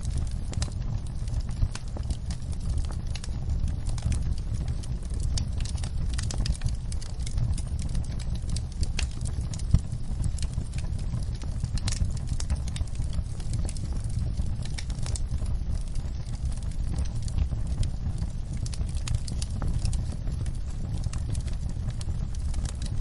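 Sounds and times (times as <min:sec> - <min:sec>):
low rumble: 0:00.0 - 0:23.0
wood fire crackling and popping: 0:00.0 - 0:23.0.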